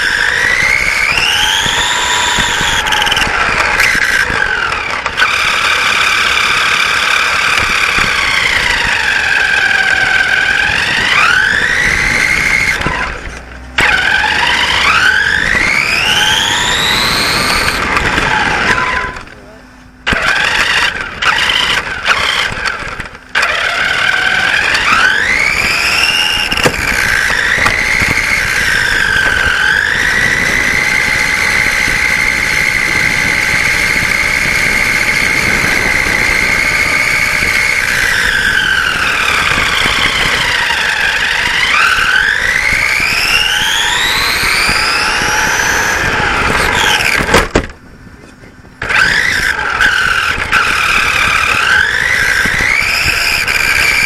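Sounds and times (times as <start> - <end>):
toy car motor whining: 0.0 - 54.0
tyres rumbling on asphalt: 0.0 - 54.0.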